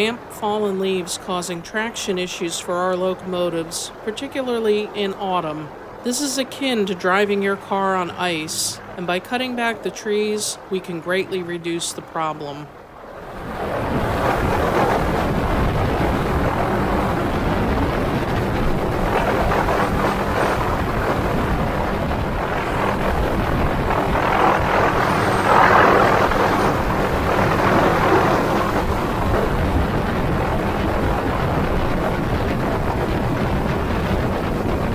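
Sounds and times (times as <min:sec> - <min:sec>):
helicopter turbine and rotor: 0:00.0 - 0:34.9.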